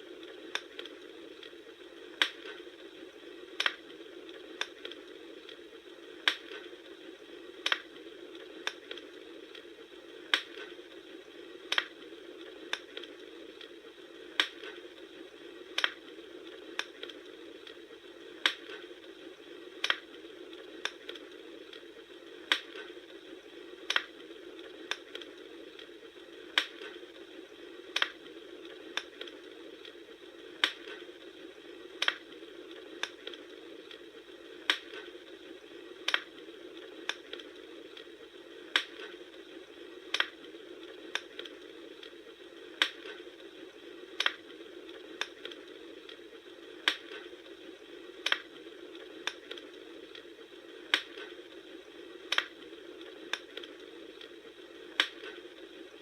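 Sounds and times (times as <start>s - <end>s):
soft fire hiss: 0.0s - 56.0s
wood fire crackling and popping: 0.0s - 56.0s.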